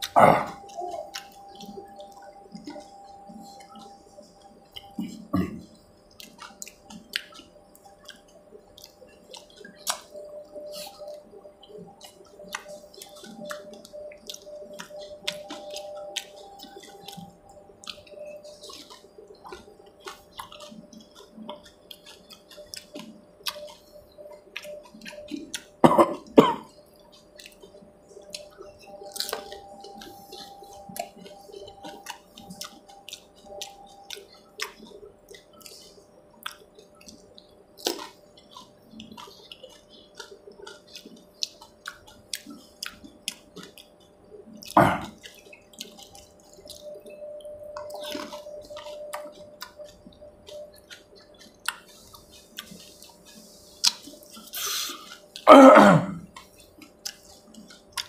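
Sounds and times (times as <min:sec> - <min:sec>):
wet chewing and slurping: 0:00.0 - 0:58.0.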